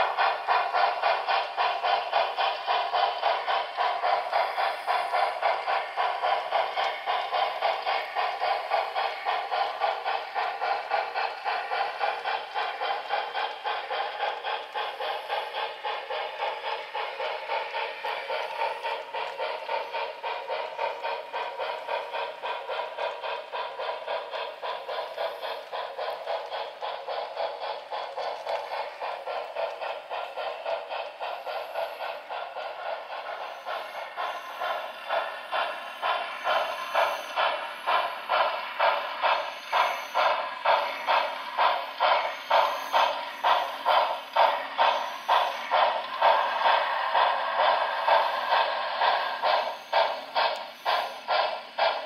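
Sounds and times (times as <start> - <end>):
model steam locomotive chuffing: 0.0 - 52.0.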